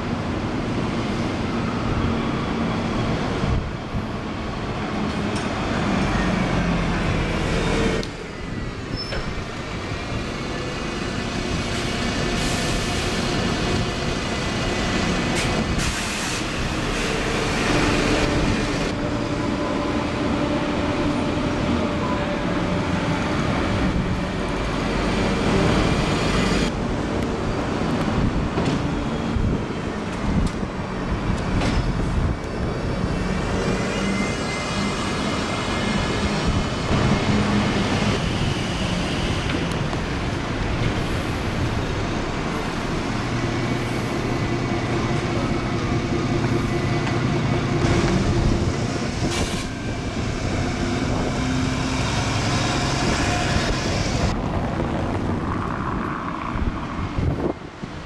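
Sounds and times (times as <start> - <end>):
buses passing: 0.0 - 58.0
road traffic hum: 0.0 - 58.0.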